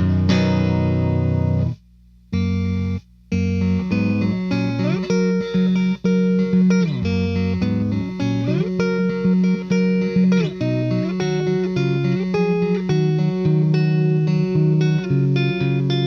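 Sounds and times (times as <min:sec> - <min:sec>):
electric guitar riff with slides: 0:00.0 - 0:01.8, 0:02.4 - 0:16.0.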